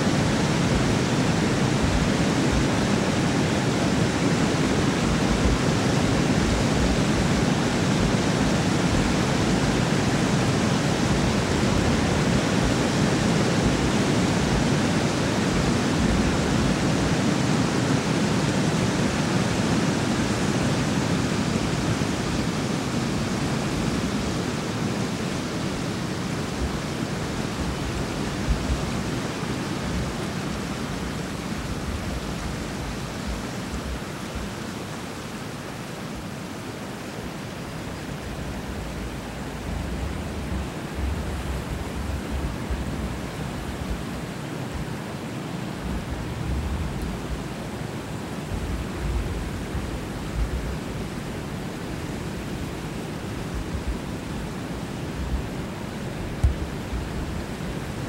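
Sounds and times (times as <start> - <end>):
water rushing through dam gates: 0.0 - 58.0.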